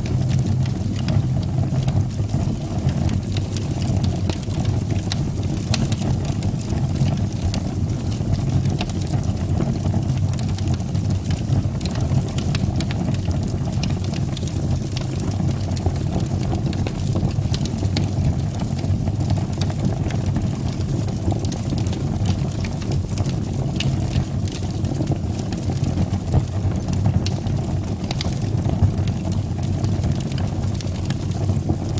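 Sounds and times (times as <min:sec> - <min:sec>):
fire crackling in a fireplace: 0:00.0 - 0:31.9.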